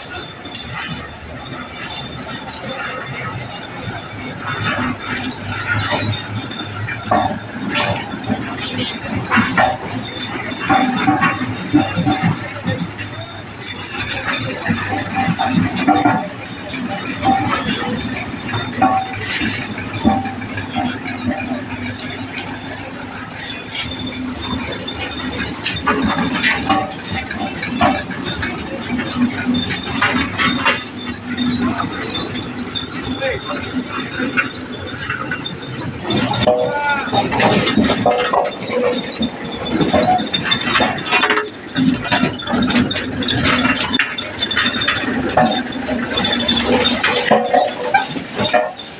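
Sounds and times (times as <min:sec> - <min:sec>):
construction machinery running: 0:00.0 - 0:48.9
metal squealing: 0:00.0 - 0:48.9.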